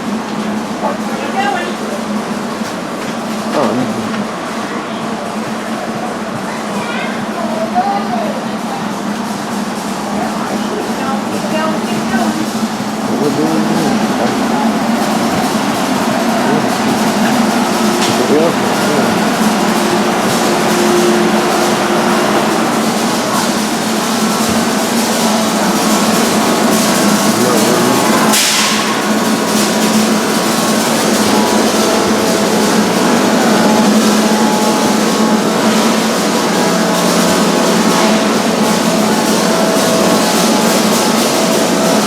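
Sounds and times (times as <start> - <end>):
machine hum: 8.0 - 42.0.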